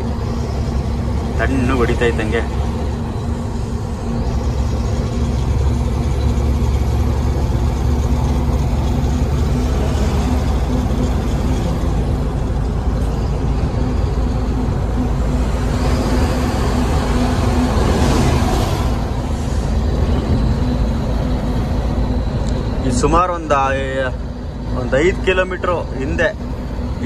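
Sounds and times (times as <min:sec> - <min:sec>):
diesel truck engine drone: 0:00.0 - 0:27.0
road and wind noise: 0:00.0 - 0:27.0.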